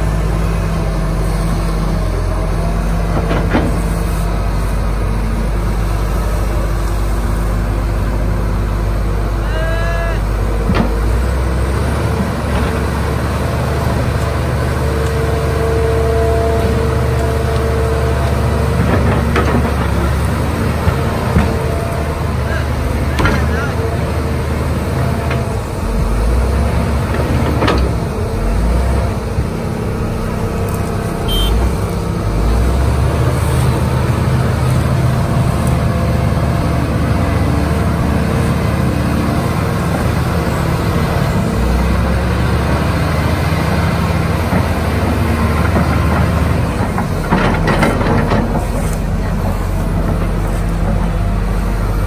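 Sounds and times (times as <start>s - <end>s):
excavator diesel engine running: 0.0s - 52.0s
excavator clanks: 1.8s - 4.8s, 7.9s - 52.0s.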